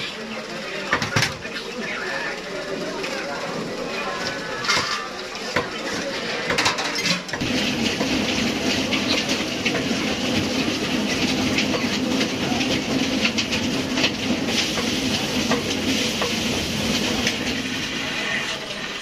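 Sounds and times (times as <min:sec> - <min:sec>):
machine humming and rattling: 0:00.0 - 0:19.0.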